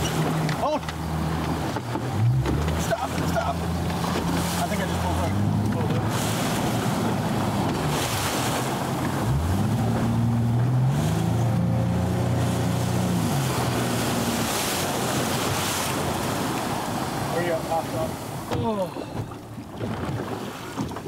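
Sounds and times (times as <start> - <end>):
boat wake hissing: 0.0 - 21.0
outboard motor running: 0.0 - 21.0.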